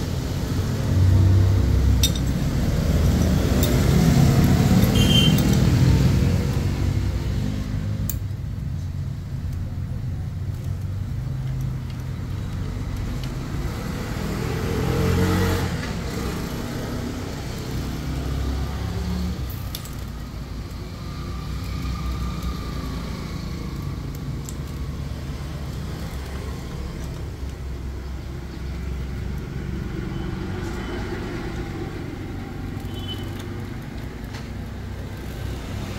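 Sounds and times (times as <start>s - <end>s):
traffic rumble: 0.0s - 35.9s.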